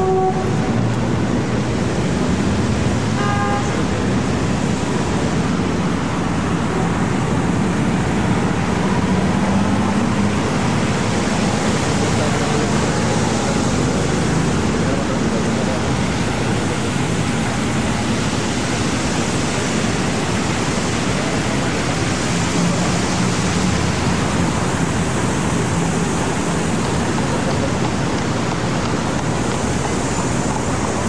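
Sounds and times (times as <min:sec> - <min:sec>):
city traffic: 0:00.0 - 0:31.0
fountain water spraying: 0:00.0 - 0:31.0.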